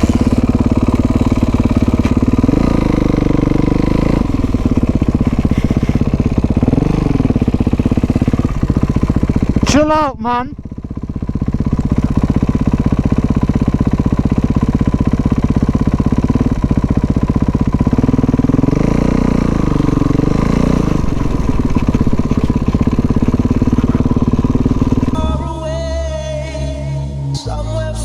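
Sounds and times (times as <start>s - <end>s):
dirt bike engine revving: 0.0s - 25.8s.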